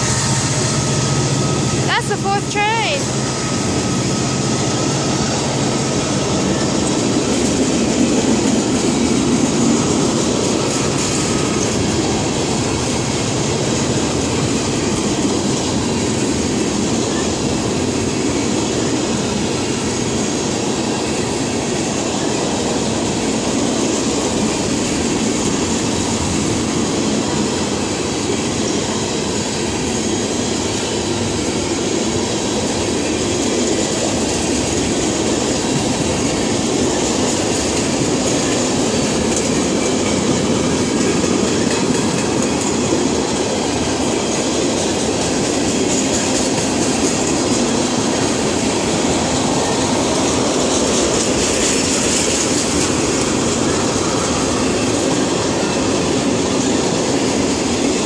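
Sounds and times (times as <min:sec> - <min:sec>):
freight train rolling past: 0:00.0 - 0:58.0
clickety-clack of rail joints: 0:03.5 - 0:58.0.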